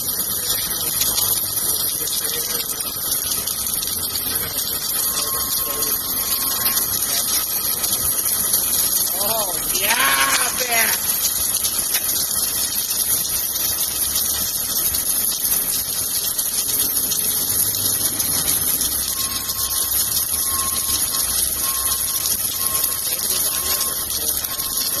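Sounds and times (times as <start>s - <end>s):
welding hissing rush: 0.0s - 25.0s.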